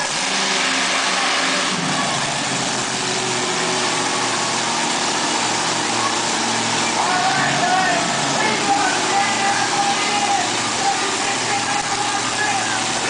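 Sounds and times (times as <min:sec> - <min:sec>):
monster truck engine running: 0:00.0 - 0:13.0.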